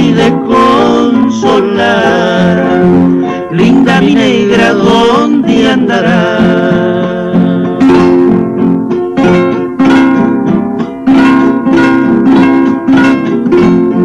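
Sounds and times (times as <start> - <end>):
guitar plucked and strummed: 0.0 - 14.0.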